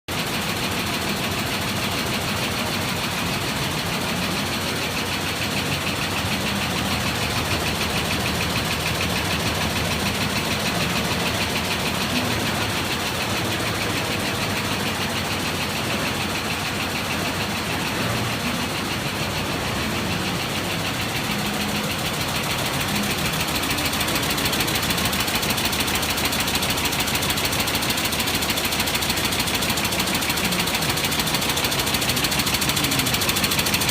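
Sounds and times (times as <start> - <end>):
quilting machine clattering: 0.1 - 33.9.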